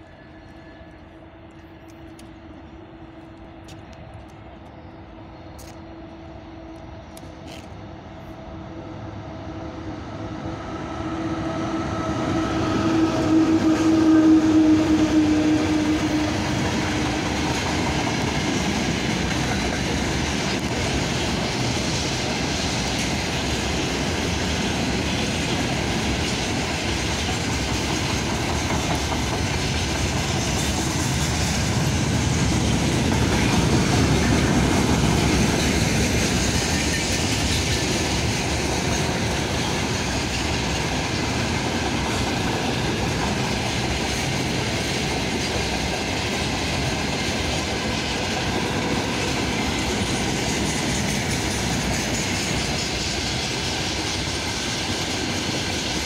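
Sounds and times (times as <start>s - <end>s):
electric locomotive humming: 0.0s - 56.0s
train wheels rolling on rails: 0.0s - 56.0s.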